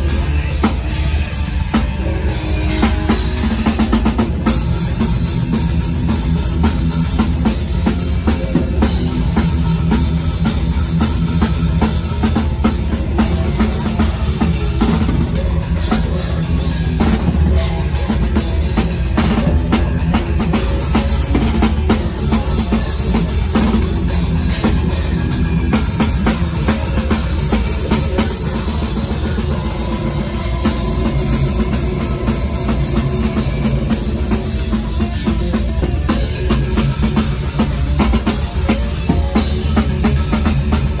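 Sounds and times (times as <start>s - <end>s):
distorted electric guitars: 0.0s - 41.0s
fast drumming: 0.0s - 41.0s.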